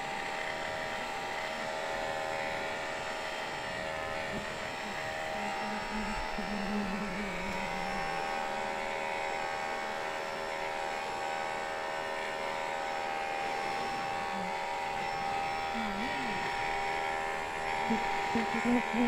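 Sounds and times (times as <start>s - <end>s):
bee colony humming: 0.0s - 19.0s.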